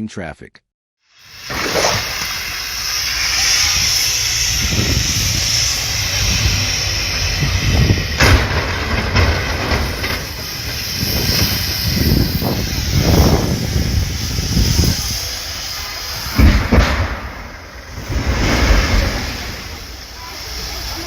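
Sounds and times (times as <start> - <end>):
vehicle rumble and hiss: 1.2 - 21.0.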